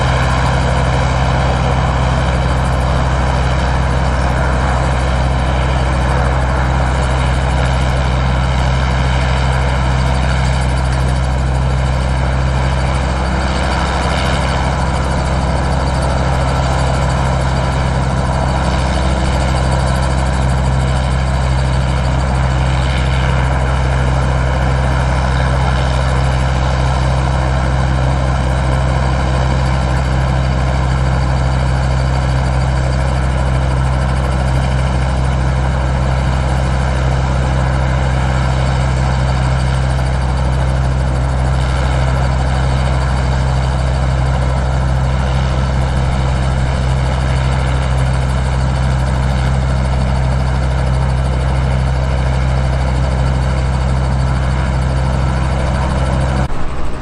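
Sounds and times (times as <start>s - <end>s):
heavy engine idling: 0.0s - 57.0s.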